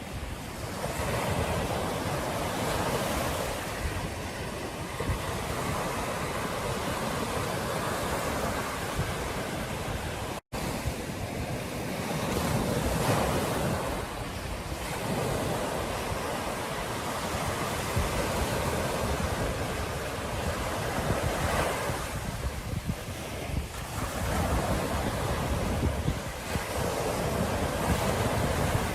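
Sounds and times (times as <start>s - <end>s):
ocean waves breaking: 0.0s - 28.9s
wind buffeting microphone: 0.0s - 28.9s.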